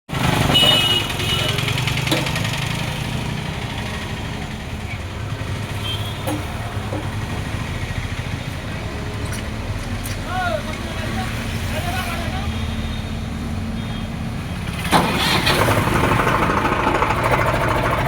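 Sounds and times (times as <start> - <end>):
diesel engine running: 0.1 - 18.0.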